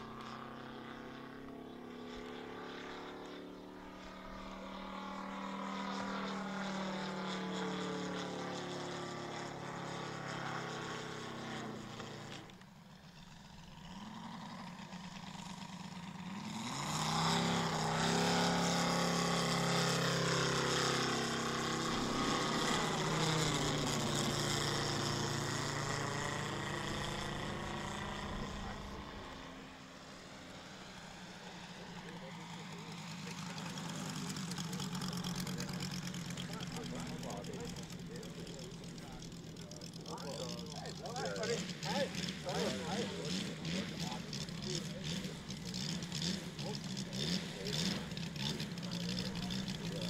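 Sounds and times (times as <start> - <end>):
model plane engine and propeller: 0.0 - 50.0.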